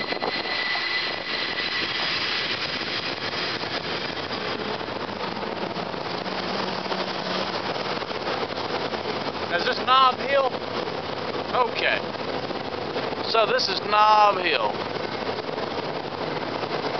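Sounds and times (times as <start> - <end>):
cable car rumbling and rattling: 0.0 - 16.9.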